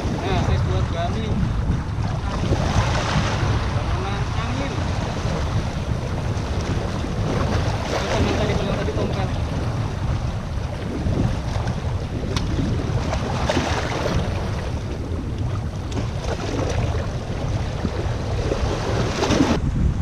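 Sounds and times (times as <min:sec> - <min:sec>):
waves washing against rocks: 0:00.0 - 0:19.6
wind buffeting microphone: 0:00.0 - 0:20.0.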